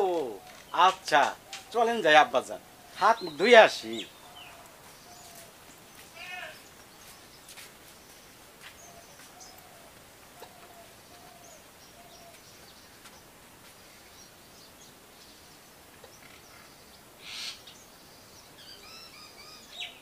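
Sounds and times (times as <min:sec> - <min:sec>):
low hooting bird calls: 0:00.0 - 0:07.2, 0:08.1 - 0:20.0.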